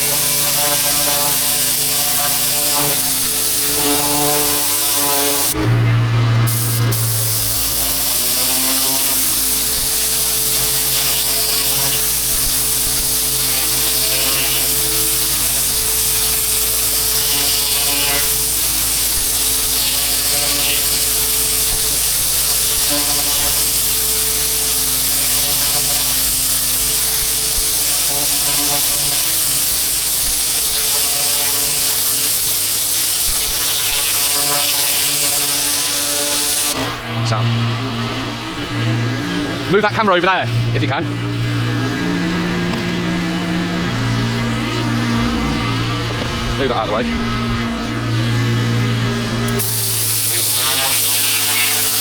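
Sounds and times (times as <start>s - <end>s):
constant hiss: 0.0s - 5.8s, 6.4s - 38.8s, 39.5s - 52.0s
pressure washer engine running: 0.0s - 52.0s.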